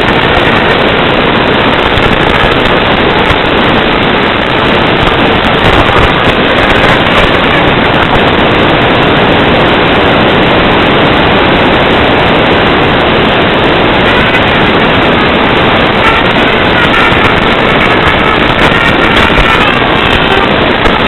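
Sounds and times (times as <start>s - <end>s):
loud static hiss: 0.0s - 21.0s.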